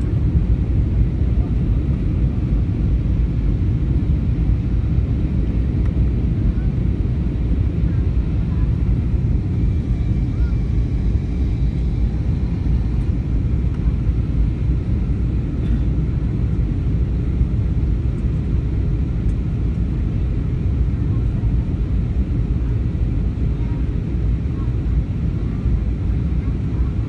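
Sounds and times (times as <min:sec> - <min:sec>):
airliner cabin drone: 0:00.0 - 0:27.0.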